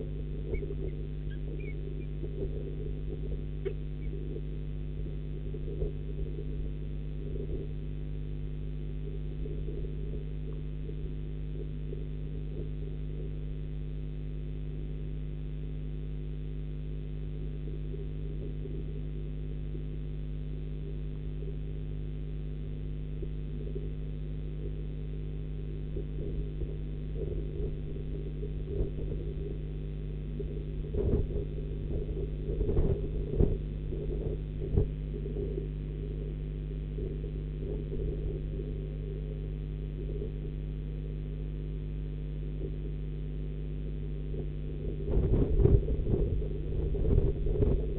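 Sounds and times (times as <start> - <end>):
electrical hum: 0.0 - 47.9
faint crackle: 0.0 - 47.9.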